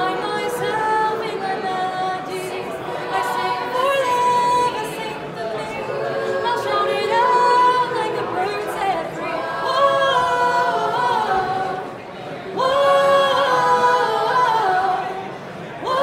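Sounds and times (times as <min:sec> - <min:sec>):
women's choir singing in harmony: 0:00.0 - 0:16.0.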